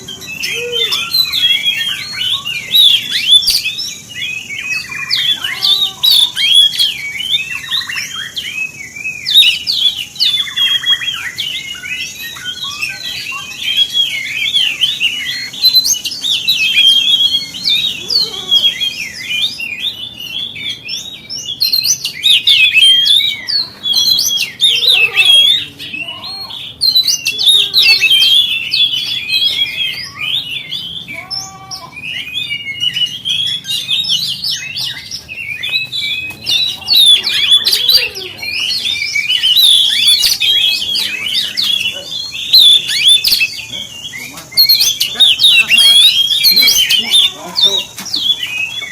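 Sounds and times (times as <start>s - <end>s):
bird singing whistles and trills: 0.0s - 48.9s.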